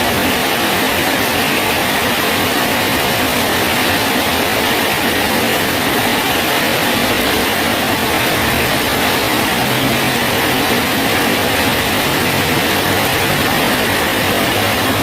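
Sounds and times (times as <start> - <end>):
heavy rain on a bridge: 0.0 - 15.0.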